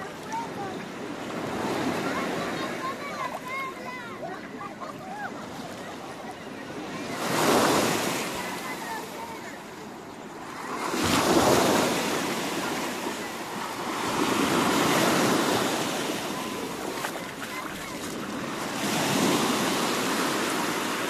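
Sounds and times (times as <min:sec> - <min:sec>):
small waves washing onto shore: 0:00.0 - 0:21.0.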